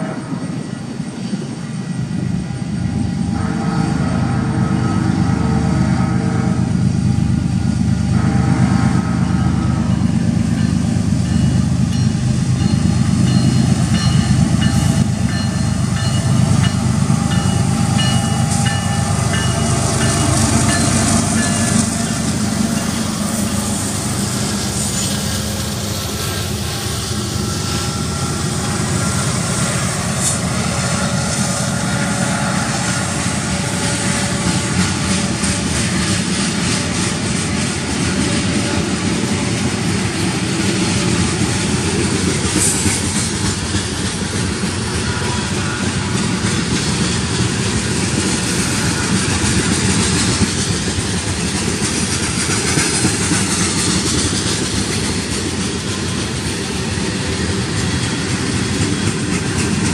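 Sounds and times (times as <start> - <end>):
locomotive low rumble: 0.0 - 59.9
train wheels clicking on rail joints: 8.6 - 59.9.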